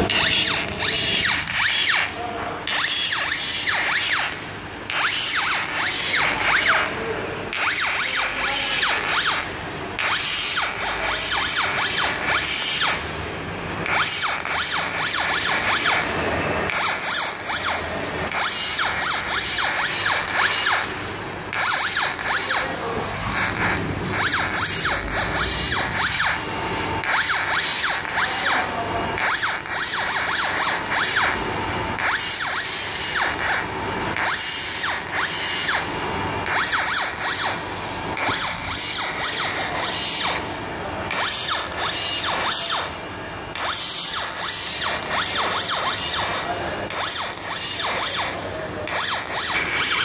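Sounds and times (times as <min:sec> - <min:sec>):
stepper motors whining: 0:00.0 - 0:13.2, 0:13.8 - 0:50.0.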